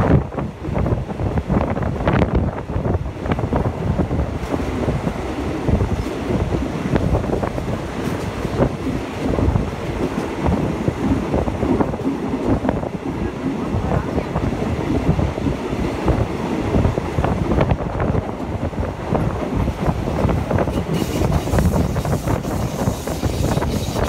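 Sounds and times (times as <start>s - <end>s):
wind buffeting microphone: 0.0s - 24.0s
train wheels clattering on rails: 3.2s - 24.0s.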